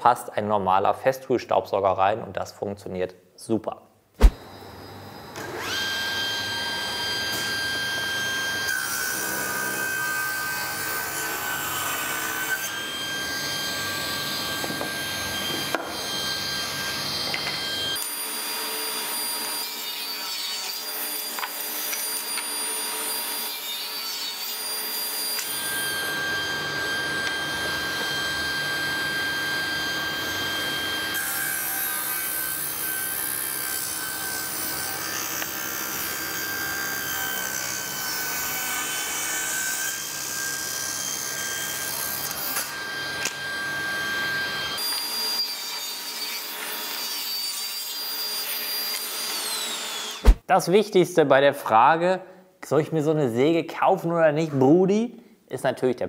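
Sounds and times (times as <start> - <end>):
table saw ripping wood: 5.4 - 50.5.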